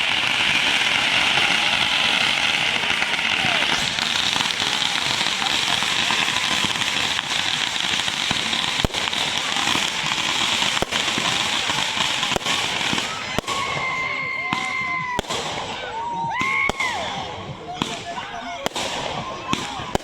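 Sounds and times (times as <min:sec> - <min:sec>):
firework bangs: 0:00.0 - 0:20.0
fireworks crackling: 0:00.0 - 0:20.0.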